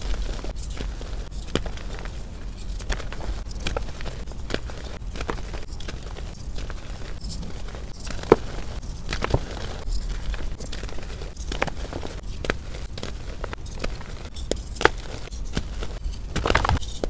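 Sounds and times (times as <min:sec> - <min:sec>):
chalk crumbled by hand: 0:00.0 - 0:17.0.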